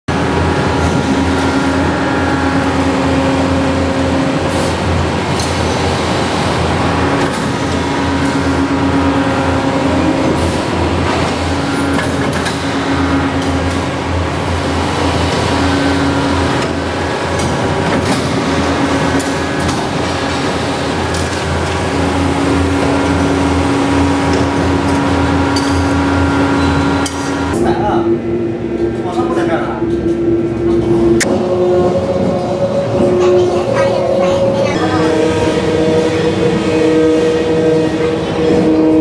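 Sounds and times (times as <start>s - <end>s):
hydraulic drives humming: 0.1s - 39.0s
pitched machine whine: 0.1s - 39.0s.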